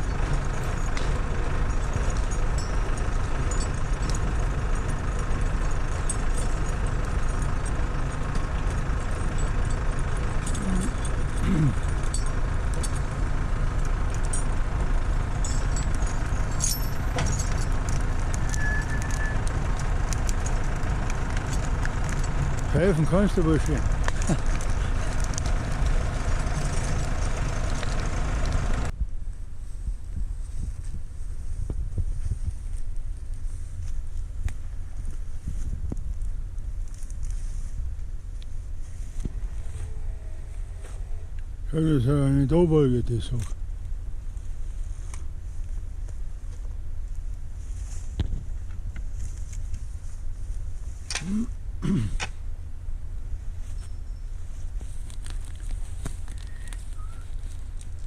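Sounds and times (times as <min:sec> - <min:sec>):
engine running at low speed: 0:00.0 - 0:58.0.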